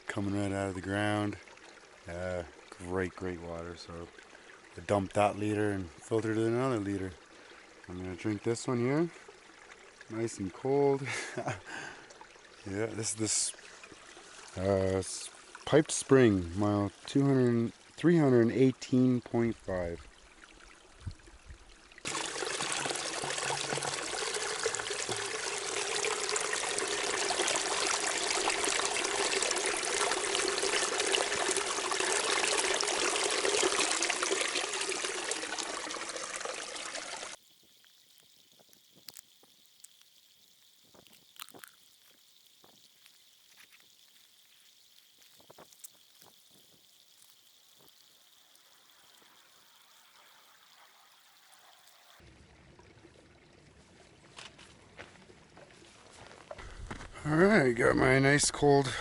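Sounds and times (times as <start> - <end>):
water pouring from a pipe: 0.0 - 59.0.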